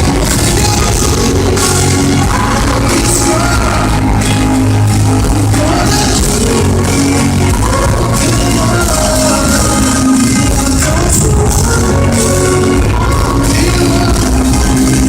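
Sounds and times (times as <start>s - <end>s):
live pop band with singing: 0.0s - 15.0s.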